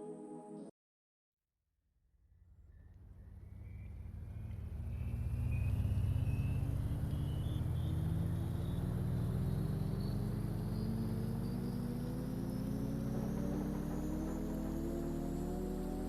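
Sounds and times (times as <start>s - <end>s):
bus engine accelerating: 2.4s - 16.0s
high engine whine: 2.4s - 16.0s.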